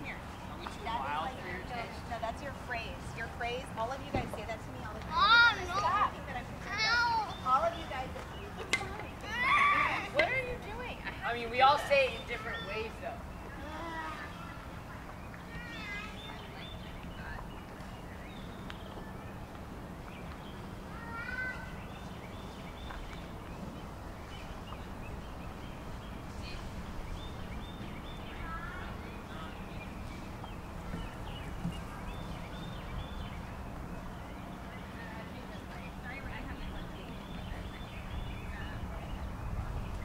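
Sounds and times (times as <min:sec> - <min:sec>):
low background noise: 0:00.0 - 0:40.0
songbirds singing: 0:00.0 - 0:40.0.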